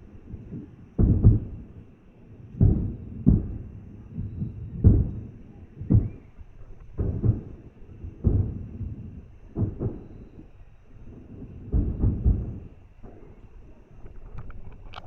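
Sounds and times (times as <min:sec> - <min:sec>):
distant fireworks booming: 0:00.0 - 0:15.0.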